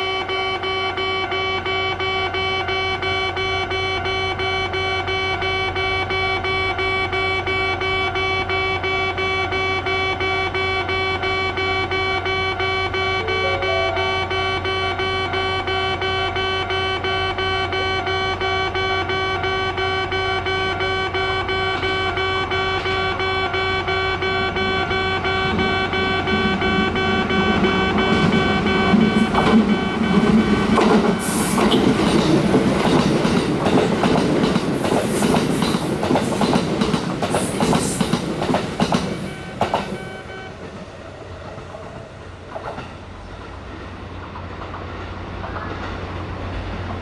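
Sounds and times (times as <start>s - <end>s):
level crossing alarm ringing: 0.0s - 40.9s
train rumble: 0.0s - 47.0s.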